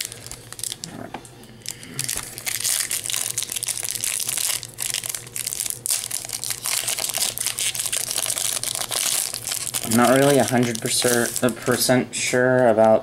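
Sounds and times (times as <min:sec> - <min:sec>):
foil wrapper crinkling and tearing: 0:00.0 - 0:01.0, 0:01.6 - 0:11.9.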